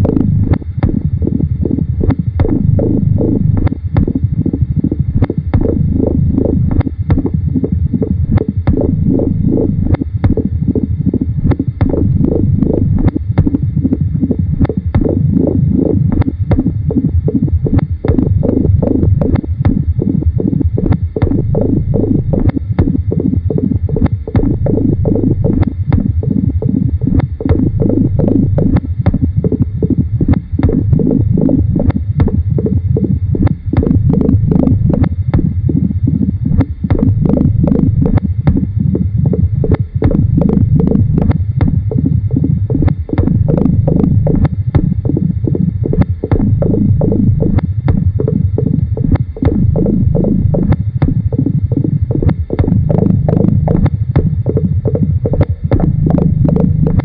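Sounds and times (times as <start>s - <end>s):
low rumbling noise texture: 0.0s - 57.0s
rapid irregular clicks and knocks: 0.0s - 57.0s.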